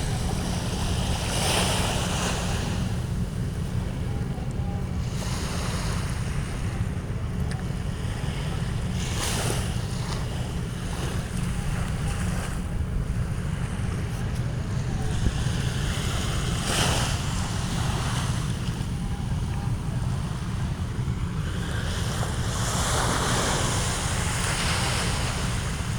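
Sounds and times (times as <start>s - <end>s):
ocean waves breaking: 0.0s - 25.9s
wind rumble on microphone: 0.0s - 25.9s.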